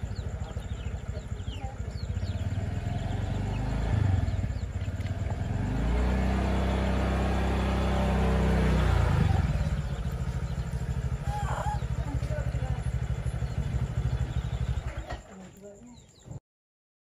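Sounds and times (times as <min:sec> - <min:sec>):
engine running: 0:00.0 - 0:15.4.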